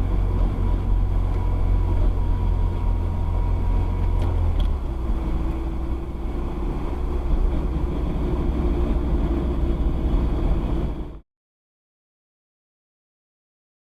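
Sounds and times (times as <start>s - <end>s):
low road rumble: 0.0s - 11.2s.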